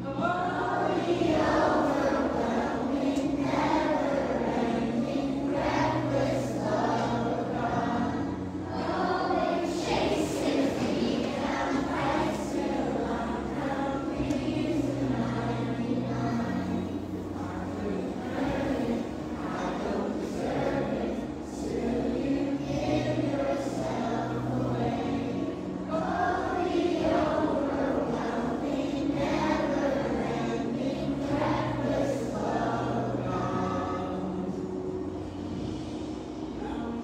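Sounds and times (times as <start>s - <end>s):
children singing: 0.0s - 35.7s.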